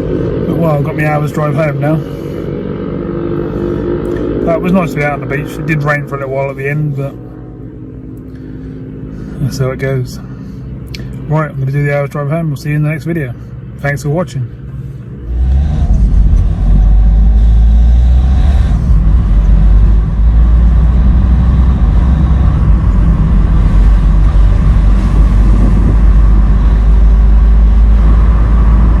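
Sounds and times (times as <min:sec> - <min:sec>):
car engine rumble inside cabin: 0:00.0 - 0:29.0.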